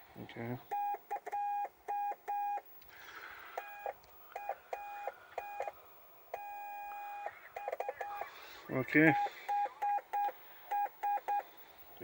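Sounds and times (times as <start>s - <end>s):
morse code beeps: 0.7s - 2.6s, 3.6s - 11.5s.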